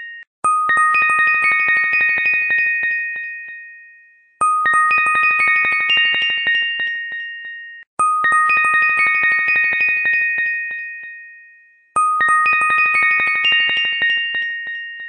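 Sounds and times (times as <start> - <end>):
chime-like bell tone melody: 0.0 - 15.0.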